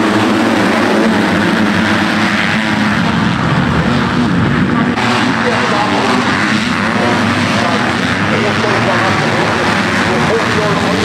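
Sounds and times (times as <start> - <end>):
motocross bikes racing: 0.0 - 11.0.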